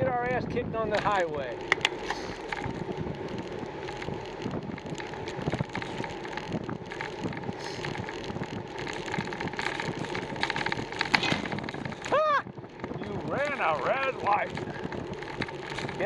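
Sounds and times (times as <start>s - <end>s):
bicycle rattles and clicks: 0.0s - 16.0s
wind rushing over microphone: 0.0s - 16.0s.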